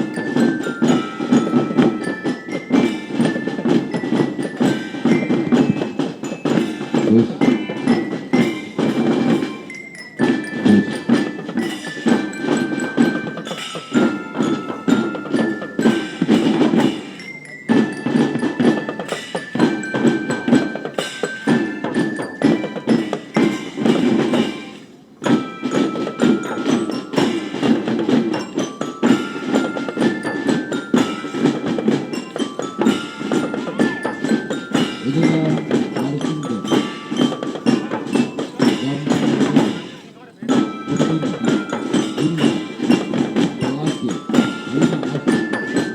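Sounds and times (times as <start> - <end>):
fast dense drumming: 0.0 - 45.9
glockenspiel melody: 0.0 - 45.9.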